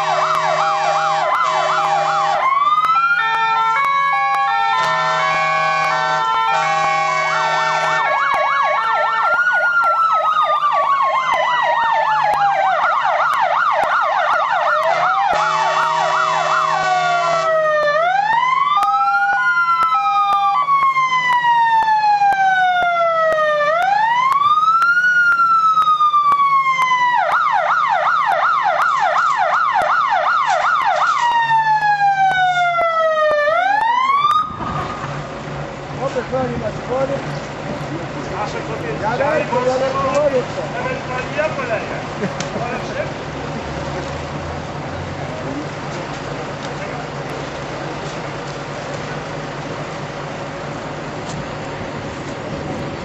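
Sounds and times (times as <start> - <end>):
fire engine siren: 0.0 - 53.0.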